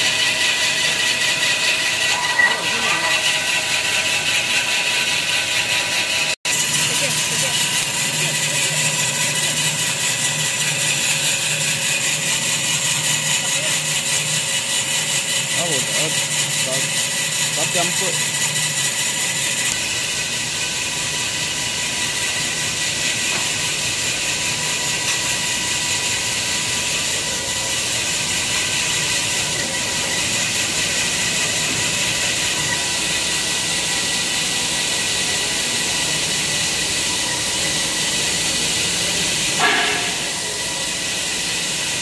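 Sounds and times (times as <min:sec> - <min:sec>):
workshop machinery hiss: 0:00.0 - 0:42.0.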